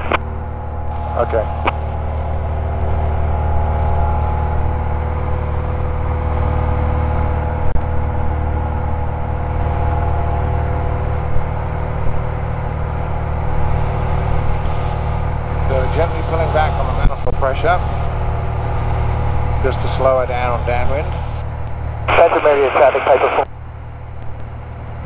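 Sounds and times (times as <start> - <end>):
airplane engine and propeller drone: 0.0 - 25.0.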